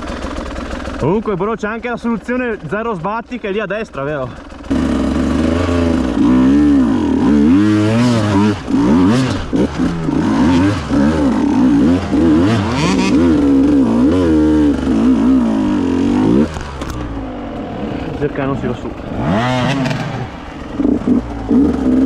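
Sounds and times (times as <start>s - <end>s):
two-stroke motorbike engine revving: 0.0s - 22.0s.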